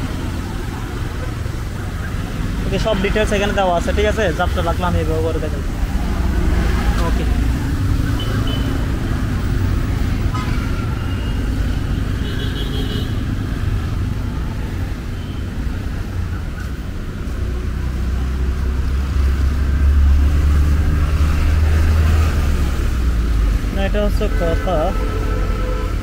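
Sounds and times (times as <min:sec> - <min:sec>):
city street traffic: 0:00.0 - 0:26.0
vehicle engine rumble: 0:00.0 - 0:26.0.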